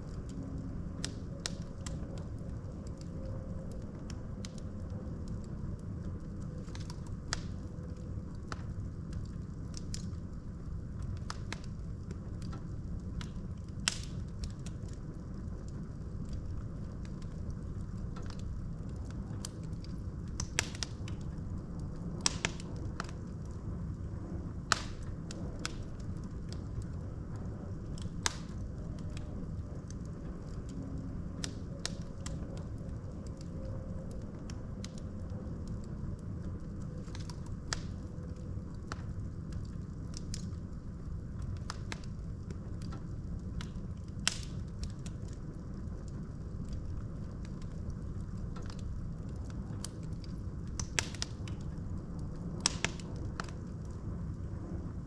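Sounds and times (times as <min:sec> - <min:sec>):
fire rumbling: 0:00.0 - 0:55.0
logs crackling and popping: 0:00.0 - 0:55.0.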